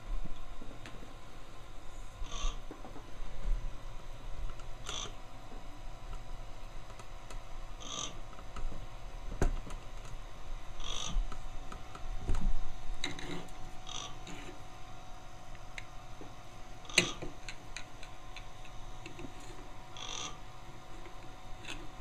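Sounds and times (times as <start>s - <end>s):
motor hum and whine: 0.0s - 22.0s.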